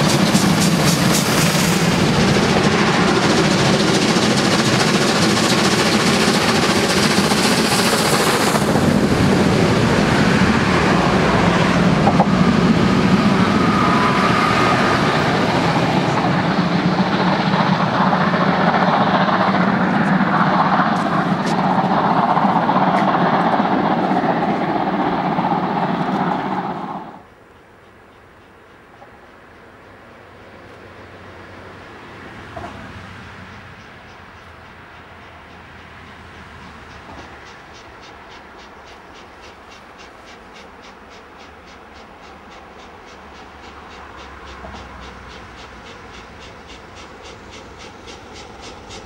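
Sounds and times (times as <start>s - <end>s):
steam locomotive exhaust: 0.0s - 30.3s, 33.4s - 49.0s
train rolling past: 0.0s - 49.0s.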